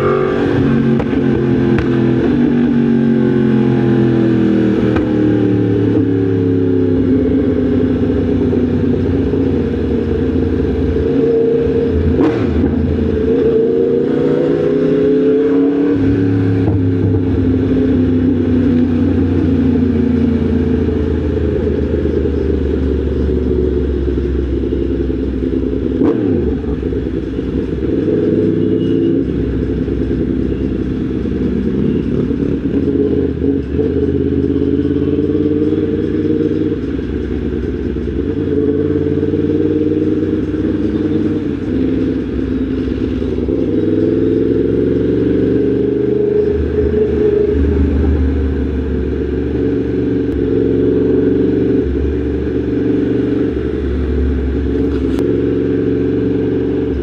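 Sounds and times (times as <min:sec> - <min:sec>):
motorcycle engine revving: 0:00.0 - 0:57.0
road and wind noise: 0:00.0 - 0:57.0.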